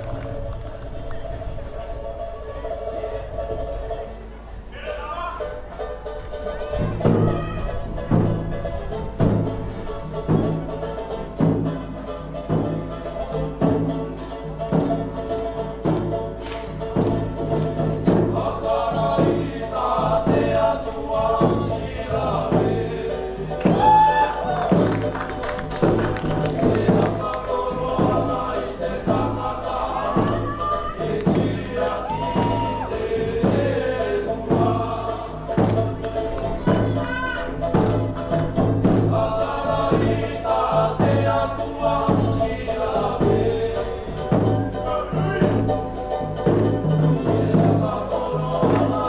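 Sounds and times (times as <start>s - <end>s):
group singing in harmony: 0.0s - 49.0s
ukuleles and guitar strumming: 0.0s - 49.0s
bass drum beat: 5.4s - 49.0s.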